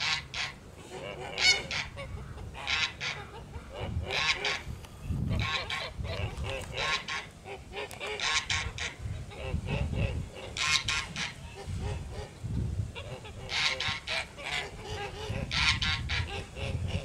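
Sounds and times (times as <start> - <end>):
geese honking: 0.0 - 12.4, 13.0 - 17.0.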